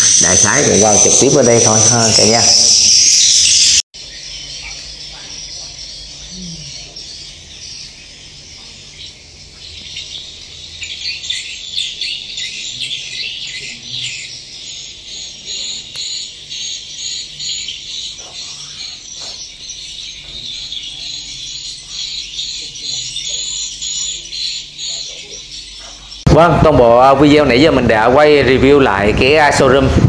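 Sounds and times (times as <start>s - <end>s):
swiftlets twittering: 0.0s - 29.8s.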